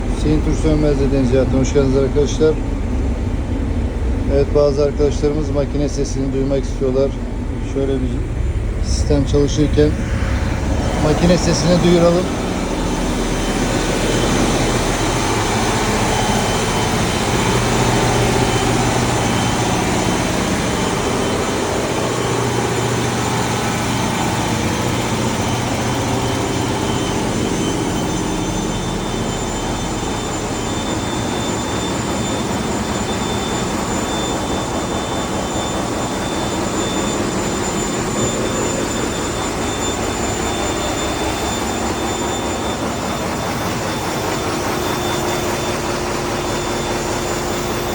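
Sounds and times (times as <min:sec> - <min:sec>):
machinery whining tones: 0:00.0 - 0:47.9
ship diesel engine running: 0:00.0 - 0:47.9.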